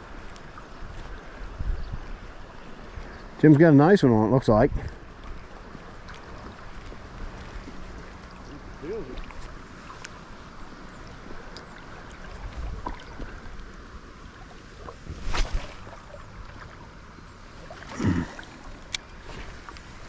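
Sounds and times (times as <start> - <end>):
shallow river water running: 0.0 - 20.0
water splashes: 2.0 - 20.0.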